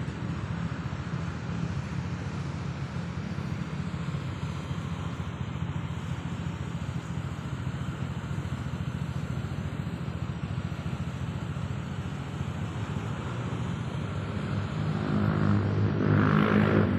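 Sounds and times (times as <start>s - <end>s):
small engine rumbling: 0.0s - 16.9s.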